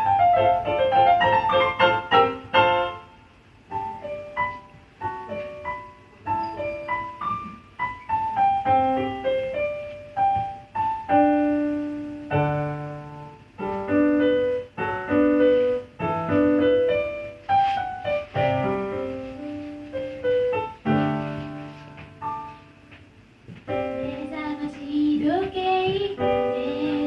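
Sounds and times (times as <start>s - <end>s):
piano chords and bass notes: 0.0s - 27.0s
piano melody: 0.0s - 27.0s.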